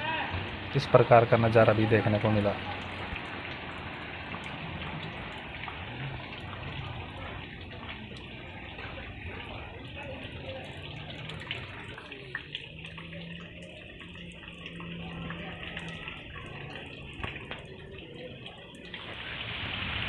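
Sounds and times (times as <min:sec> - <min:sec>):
rain hissing on wet street: 0:00.0 - 0:20.0.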